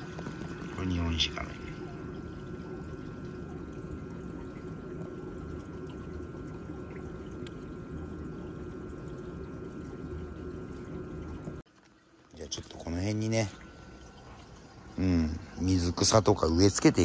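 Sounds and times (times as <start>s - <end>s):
faint steady whine: 0.0s - 17.0s
water rushing through filter: 0.0s - 17.0s.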